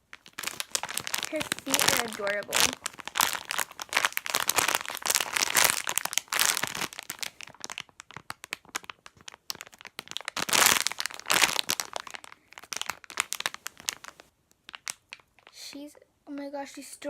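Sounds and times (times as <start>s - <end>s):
plastic packaging crackling: 0.0s - 15.6s.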